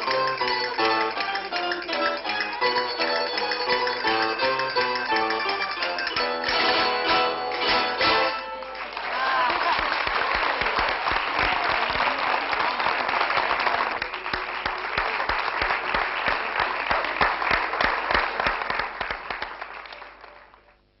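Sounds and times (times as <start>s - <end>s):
audience applauding: 0.0s - 20.8s.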